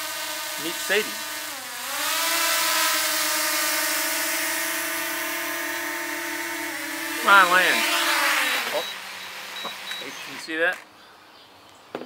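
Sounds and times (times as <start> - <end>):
drone propellers whining: 0.0 - 10.8.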